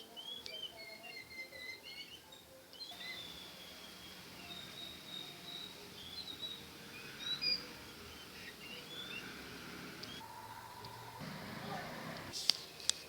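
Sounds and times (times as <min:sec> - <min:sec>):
birds chirping and whistling: 0:00.0 - 0:12.4
outdoor background hiss: 0:00.0 - 0:13.0.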